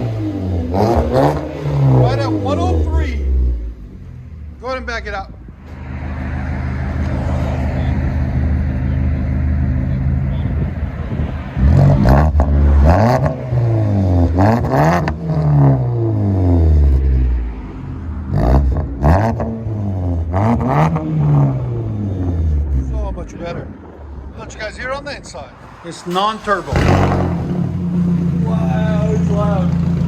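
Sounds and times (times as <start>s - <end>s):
car engine idling and revving: 0.0s - 30.0s
exhaust crackles: 0.0s - 30.0s.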